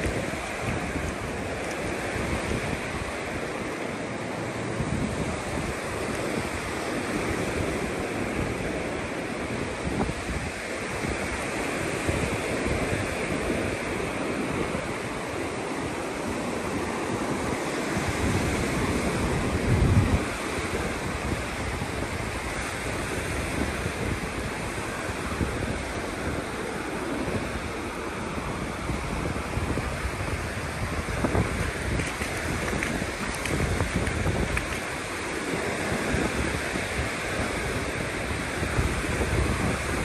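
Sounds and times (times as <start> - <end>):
ocean surf washing onto beach: 0.0 - 40.0
wind buffeting microphone: 0.0 - 40.0.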